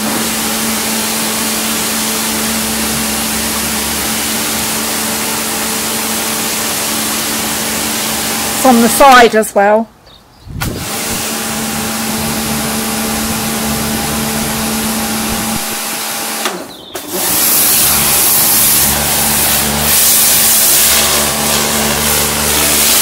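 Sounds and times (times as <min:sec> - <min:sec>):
pressure washer humming: 0:00.0 - 0:09.4, 0:10.6 - 0:23.0
water jet spraying: 0:00.0 - 0:09.5, 0:10.6 - 0:23.0.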